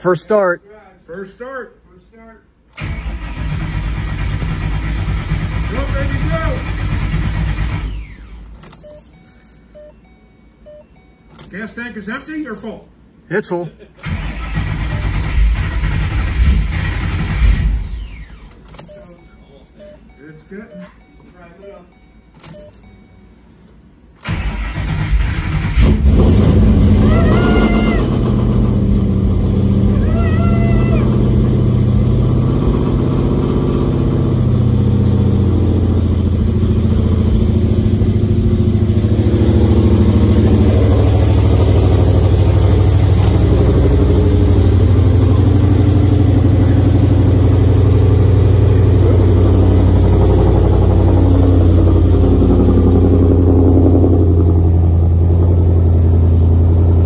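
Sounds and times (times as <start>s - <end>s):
car engine cranking and idling: 2.5s - 9.9s, 13.8s - 21.4s, 23.9s - 57.0s.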